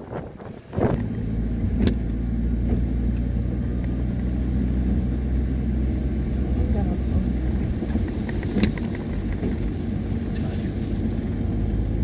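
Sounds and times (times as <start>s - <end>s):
car engine starting and idling: 0.6s - 12.0s.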